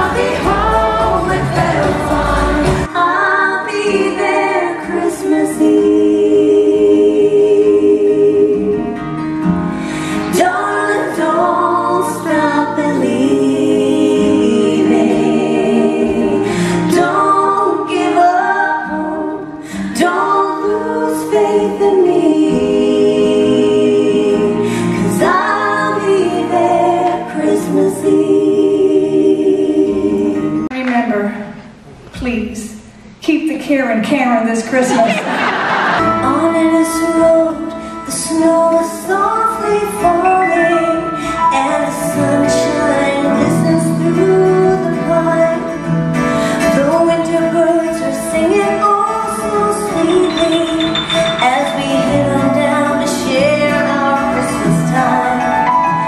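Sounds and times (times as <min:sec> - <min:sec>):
women singing in harmony: 0:00.0 - 0:09.1, 0:09.9 - 0:30.7, 0:35.0 - 0:56.0.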